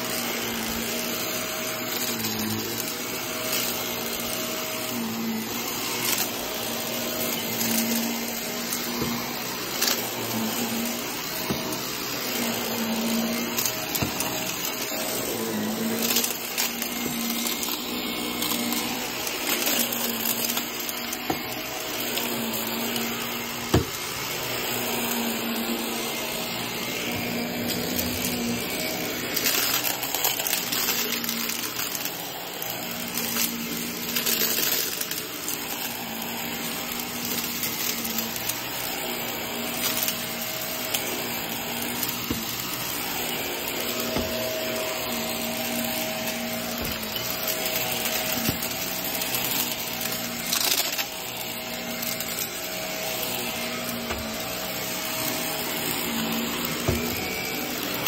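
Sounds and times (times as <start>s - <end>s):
vacuum cleaner on carpet: 0.0s - 58.0s.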